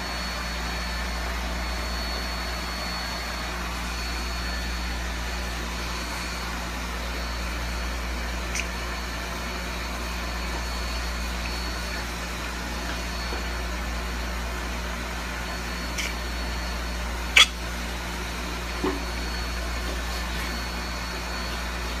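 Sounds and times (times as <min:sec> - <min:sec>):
mechanical hum with high whine: 0:00.0 - 0:22.0.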